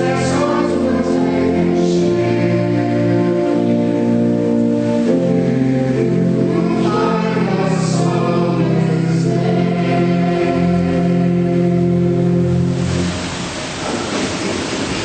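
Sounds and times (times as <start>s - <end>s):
church choir singing: 0.0s - 13.3s.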